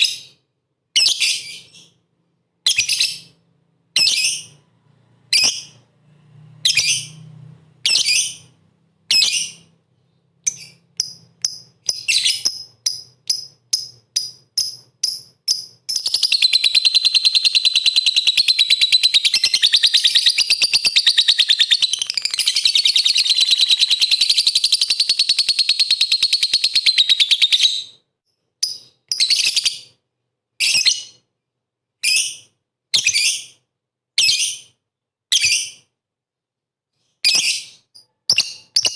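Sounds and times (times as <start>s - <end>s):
lovebird calling and trilling: 0.0s - 4.6s, 5.3s - 5.8s, 6.6s - 28.0s, 28.6s - 30.0s, 30.6s - 31.3s, 32.0s - 33.6s, 34.2s - 35.9s, 37.0s - 38.9s.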